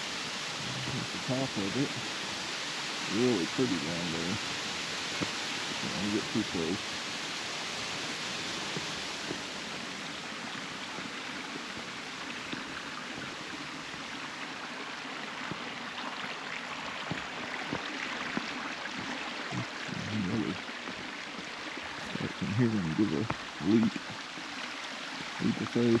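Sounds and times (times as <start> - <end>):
creek water running over rock: 0.0 - 26.0.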